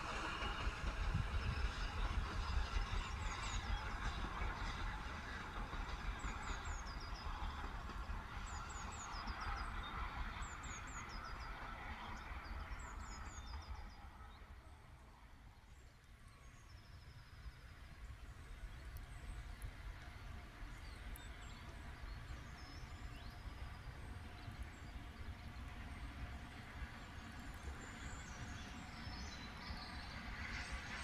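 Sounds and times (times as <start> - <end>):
distant steam locomotive rumble: 0.0 - 31.0.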